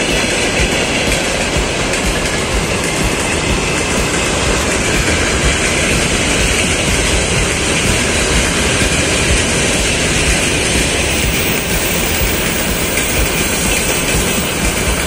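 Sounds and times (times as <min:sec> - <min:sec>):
freight train wagons on rails: 0:00.0 - 0:15.0.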